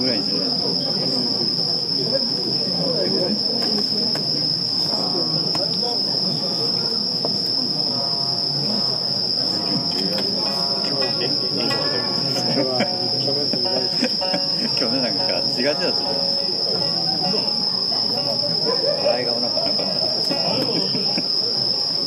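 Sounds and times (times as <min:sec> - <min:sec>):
crickets trilling: 0:00.0 - 0:22.0
murmur of people talking: 0:00.0 - 0:22.0.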